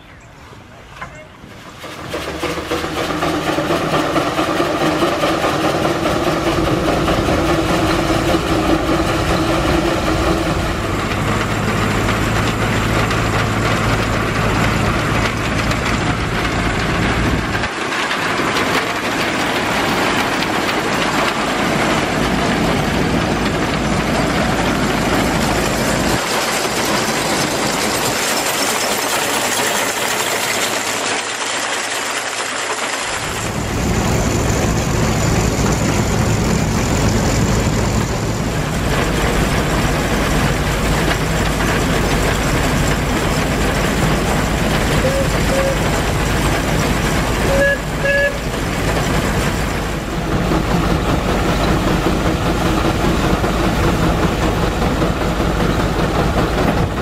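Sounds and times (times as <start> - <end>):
threshing machine running: 1.0 - 57.0.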